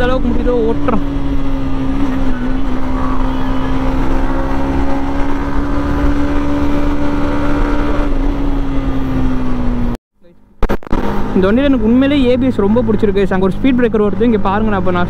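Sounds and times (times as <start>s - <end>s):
motorcycle engine drone: 0.0s - 15.0s
wind and road rumble: 0.0s - 15.0s.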